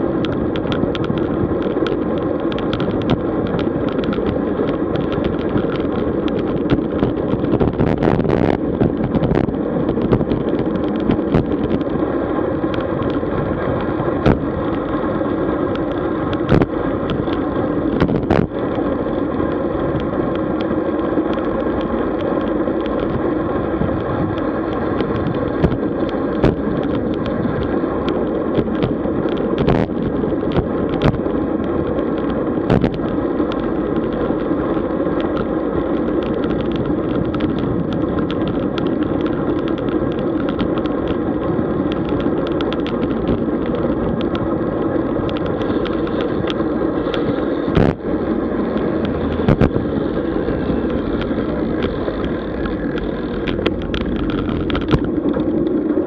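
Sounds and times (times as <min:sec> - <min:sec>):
bicycle clicks and rattles: 0:00.0 - 0:56.0
road and wind noise: 0:00.0 - 0:56.0.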